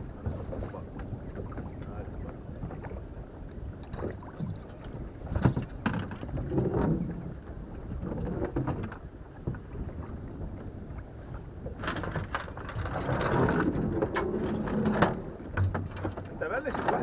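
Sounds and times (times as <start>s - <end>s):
water around a boat: 0.0s - 17.0s.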